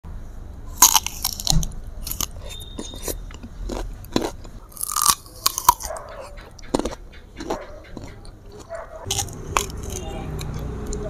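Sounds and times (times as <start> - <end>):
crunching and chewing fruit: 0.7 - 11.0.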